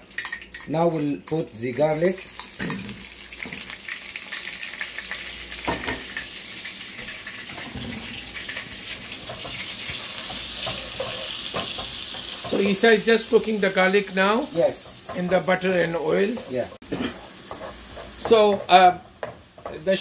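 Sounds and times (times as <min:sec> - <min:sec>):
garlic sizzling in oil: 0:01.8 - 0:20.0.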